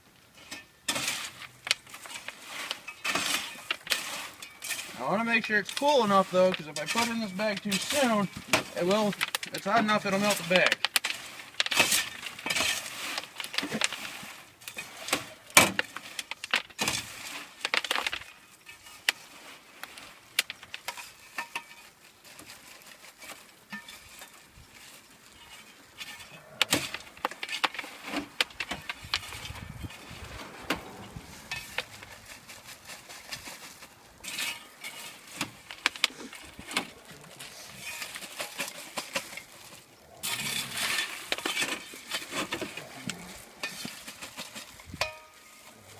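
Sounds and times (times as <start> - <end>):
popcorn rustling and scraping: 0.0 - 45.9.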